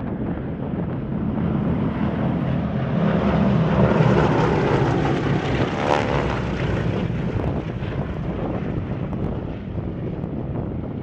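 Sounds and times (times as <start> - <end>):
propeller planes passing overhead: 0.0 - 11.0.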